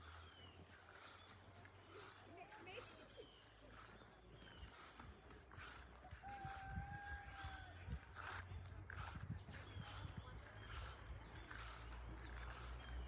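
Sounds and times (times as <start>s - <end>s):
footsteps on a path: 0.0s - 13.0s.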